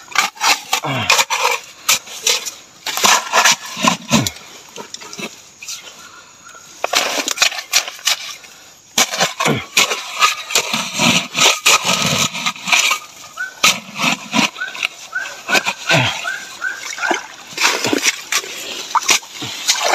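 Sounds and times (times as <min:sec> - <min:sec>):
gold pan scraping soil and gravel: 0:00.0 - 0:06.0, 0:06.8 - 0:19.9.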